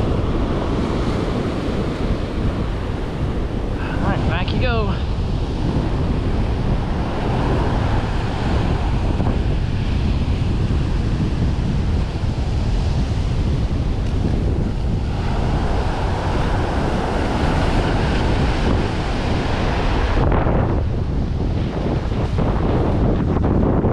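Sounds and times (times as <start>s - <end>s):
ocean surf on beach: 0.0s - 23.9s
wind buffeting microphone: 0.0s - 23.9s.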